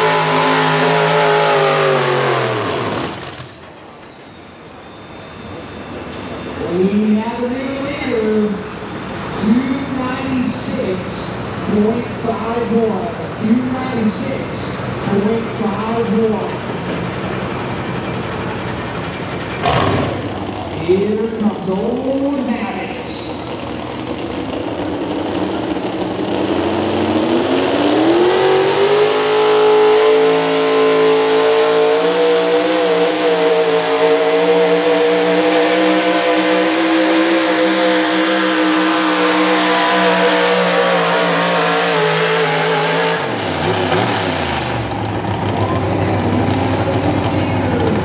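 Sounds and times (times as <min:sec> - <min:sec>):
truck engine at full throttle: 0:00.0 - 0:04.2, 0:05.5 - 0:48.0.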